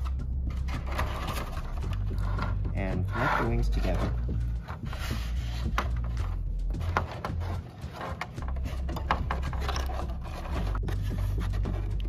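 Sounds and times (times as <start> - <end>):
plastic parts clicking and rubbing: 0.0 - 12.0.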